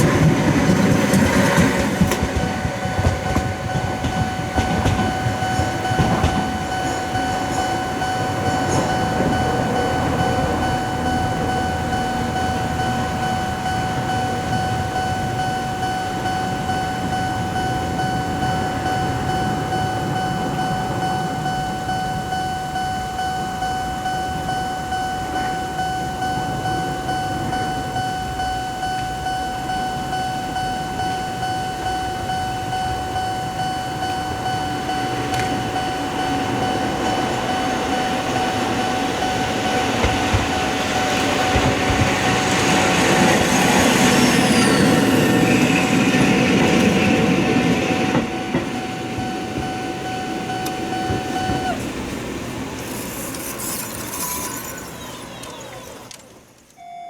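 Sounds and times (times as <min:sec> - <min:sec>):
train passing: 0:00.0 - 0:56.8
level crossing warning bell: 0:00.0 - 0:57.0
high squeals: 0:05.1 - 0:56.8.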